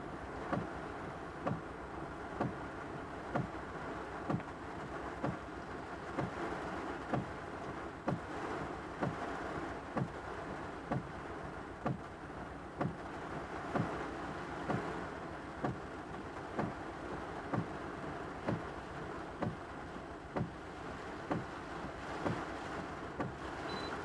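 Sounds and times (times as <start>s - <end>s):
rain hissing on car: 0.0s - 24.0s
windshield wiper thumps: 0.4s - 1.7s, 2.3s - 12.2s, 12.8s - 19.7s, 20.3s - 23.5s.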